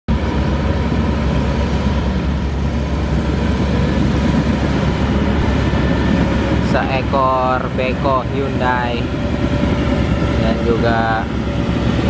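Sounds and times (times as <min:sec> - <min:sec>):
diesel engines rumbling: 0:00.1 - 0:12.0.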